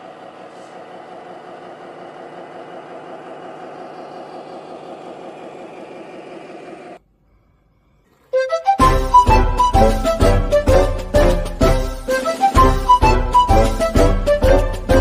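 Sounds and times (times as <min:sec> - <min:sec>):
rc truck engine drone: 0:00.0 - 0:07.2, 0:07.8 - 0:15.0.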